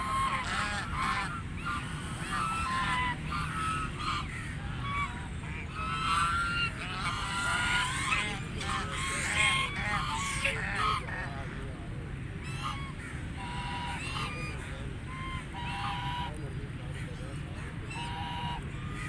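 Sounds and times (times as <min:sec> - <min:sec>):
geese honking: 0:00.0 - 0:11.3, 0:12.5 - 0:16.4, 0:17.0 - 0:19.0.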